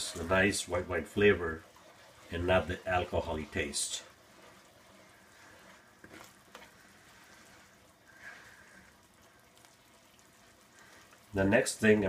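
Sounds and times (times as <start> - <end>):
sauce simmering sizzle: 0.0 - 12.0.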